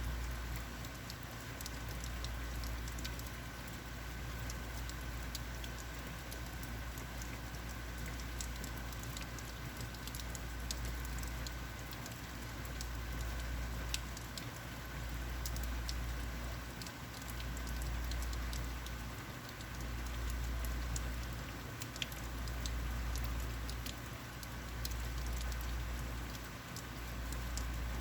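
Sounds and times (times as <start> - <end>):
heavy rain with sharp drips: 0.0 - 28.0.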